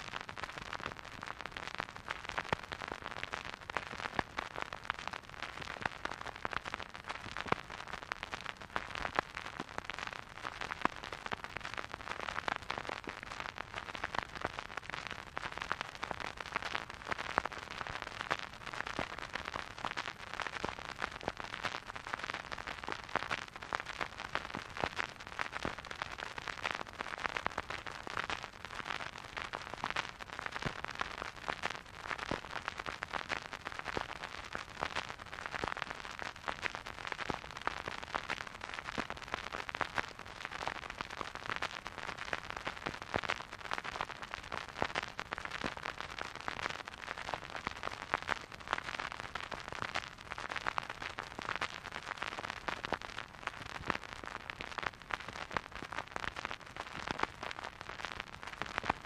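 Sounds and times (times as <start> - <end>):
record hiss: 0.0 - 59.0
vinyl crackle and pops: 0.0 - 59.0.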